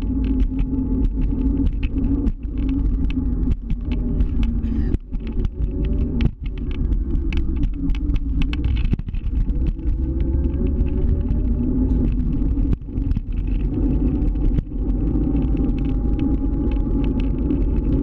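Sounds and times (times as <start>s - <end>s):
heavy low rumble: 0.0s - 18.0s
sharp clicks and rattles: 0.0s - 18.0s.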